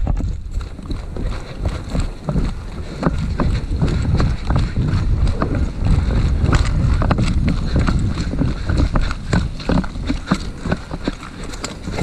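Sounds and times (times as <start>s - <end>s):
footsteps on forest floor: 0.0s - 12.0s
wind buffeting microphone: 0.0s - 12.0s.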